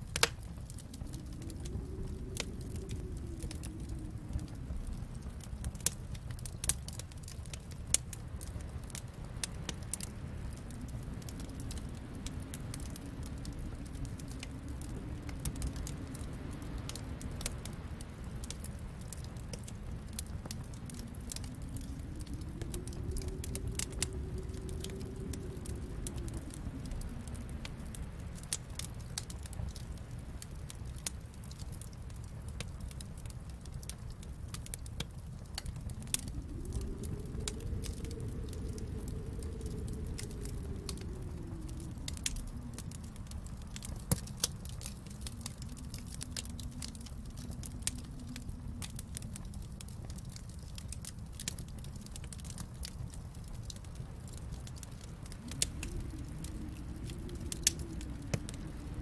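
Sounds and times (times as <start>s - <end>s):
faint low howl: 0.0s - 59.0s
wood fire crackling: 0.0s - 59.0s.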